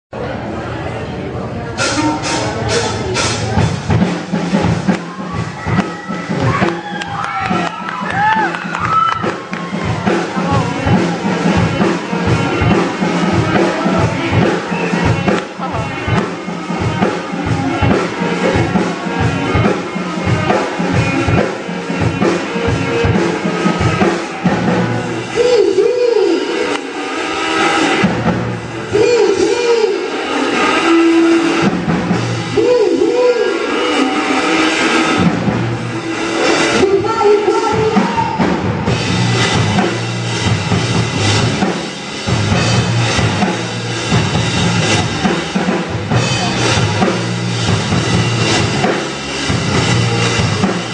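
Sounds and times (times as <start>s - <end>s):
bass guitar: 0.1s - 50.9s
rock band playing live: 1.7s - 50.9s
drum kit beat: 1.8s - 50.9s.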